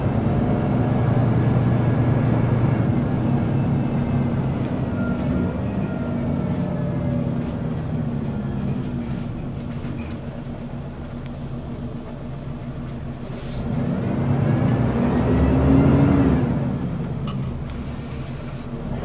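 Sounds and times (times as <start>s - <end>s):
bus engine and driveline whine: 0.0s - 19.0s.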